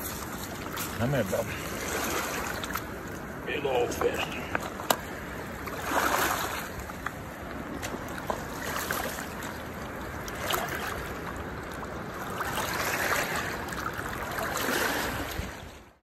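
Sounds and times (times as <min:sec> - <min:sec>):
river water swishing and splashing: 0:00.0 - 0:16.0.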